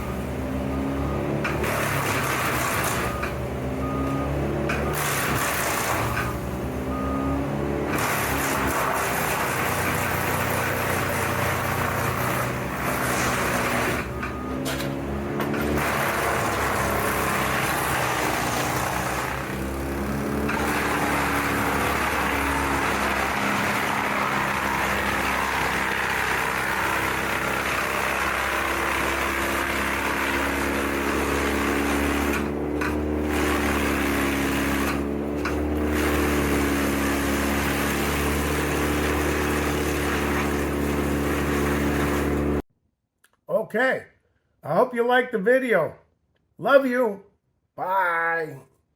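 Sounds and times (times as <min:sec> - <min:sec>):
wood chipper running: 0:00.0 - 0:42.6.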